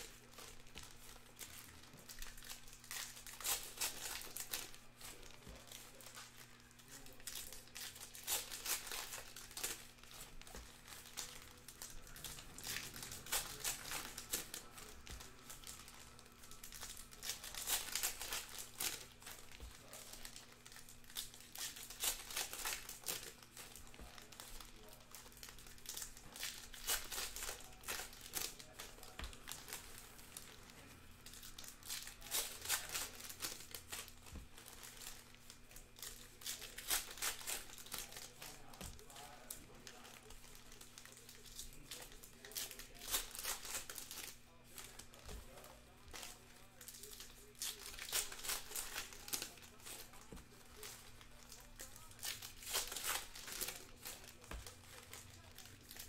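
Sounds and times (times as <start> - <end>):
faint low electrical hum: 0.0 - 56.0
foil wrappers crinkling: 0.0 - 56.0.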